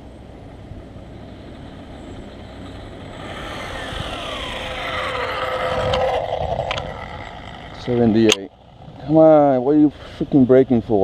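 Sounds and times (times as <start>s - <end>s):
high electric whine: 0.0s - 10.8s
road noise: 0.0s - 11.0s.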